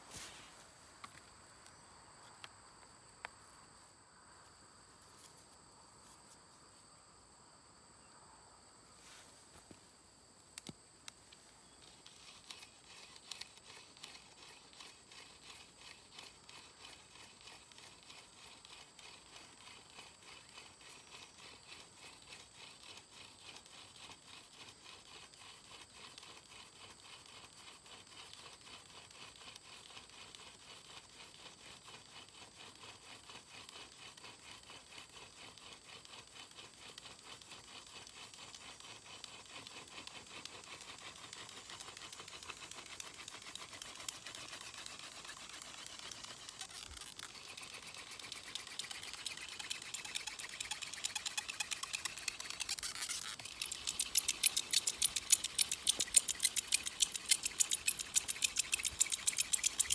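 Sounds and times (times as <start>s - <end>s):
wooden spindle rubbing in fireboard: 11.4s - 59.9s.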